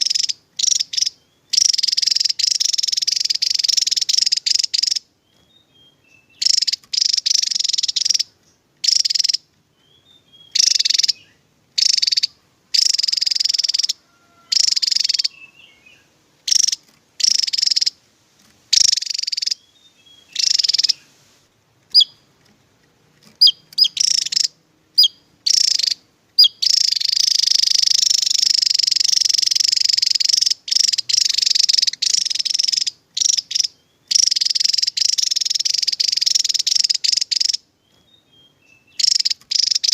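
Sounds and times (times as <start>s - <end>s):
bird singing rapid high bursts: 0.0s - 18.0s, 18.7s - 22.4s, 23.2s - 39.9s.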